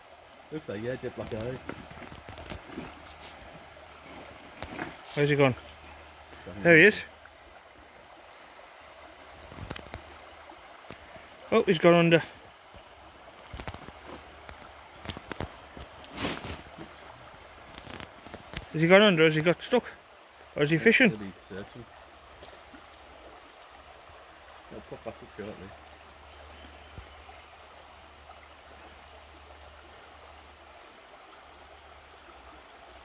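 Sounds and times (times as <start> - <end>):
river running over stones: 0.0 - 33.0.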